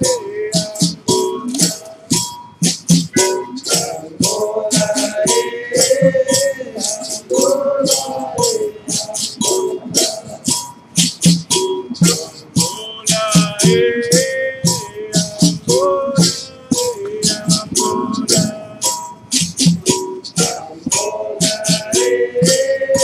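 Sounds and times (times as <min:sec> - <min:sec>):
berimbaus with rattles: 0:00.0 - 0:23.0
group singing: 0:00.0 - 0:23.0
hand drums playing rhythm: 0:00.0 - 0:23.0.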